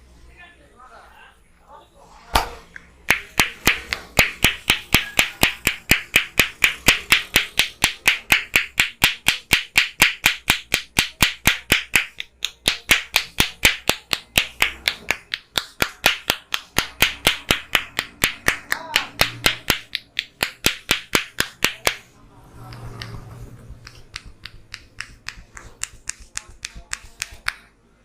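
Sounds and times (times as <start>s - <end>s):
hands striking head rhythmically: 3.1s - 22.1s, 22.7s - 27.7s.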